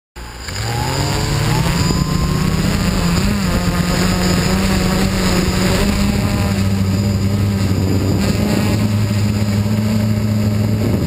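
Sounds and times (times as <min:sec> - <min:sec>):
quadcopter motors whining: 0:00.2 - 0:11.0.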